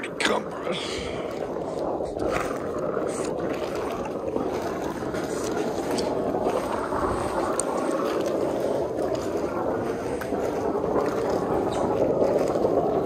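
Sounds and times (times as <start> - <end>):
foaming soap rushing: 0.0 - 13.0.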